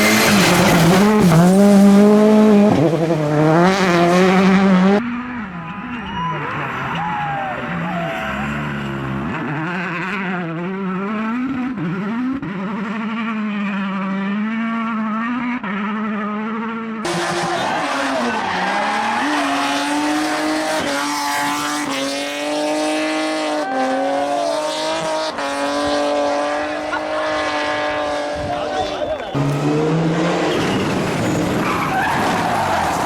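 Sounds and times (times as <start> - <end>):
tyres skidding: 0.0 - 10.6, 17.0 - 33.0
rally car engines revving: 0.0 - 33.0.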